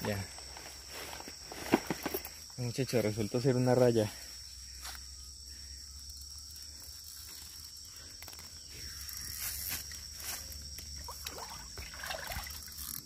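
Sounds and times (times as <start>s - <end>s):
leaves rustling and handling: 0.0s - 5.0s, 6.0s - 13.0s
insect chorus trilling: 0.0s - 13.0s.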